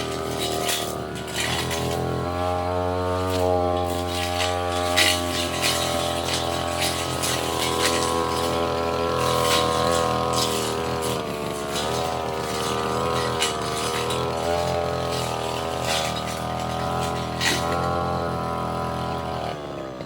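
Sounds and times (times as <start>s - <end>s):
blade ticking on stems: 0.0s - 19.7s
brush cutter engine running: 0.0s - 20.0s.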